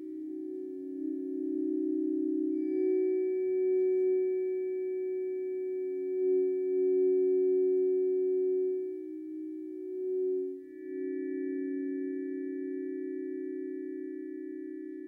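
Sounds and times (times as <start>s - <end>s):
tuning forks ringing: 0.0s - 15.0s.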